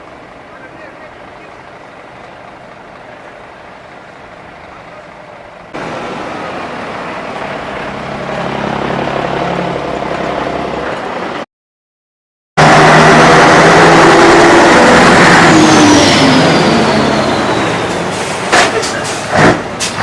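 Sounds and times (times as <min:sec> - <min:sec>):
trucks driving by: 0:00.0 - 0:11.5, 0:12.6 - 0:20.0.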